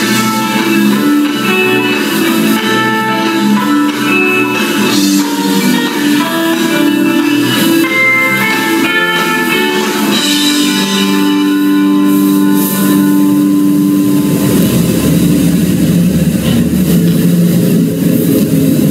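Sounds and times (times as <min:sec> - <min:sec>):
rock guitar chord ringing: 0:00.0 - 0:18.8
rough steady rumbling noise: 0:00.0 - 0:18.9.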